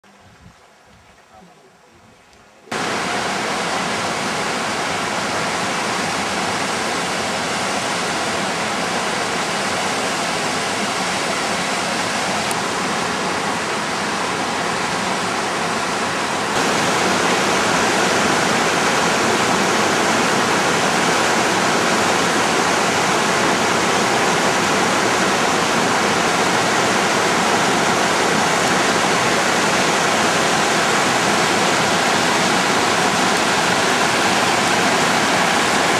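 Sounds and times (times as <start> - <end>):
waterfall rushing: 2.7 - 35.9.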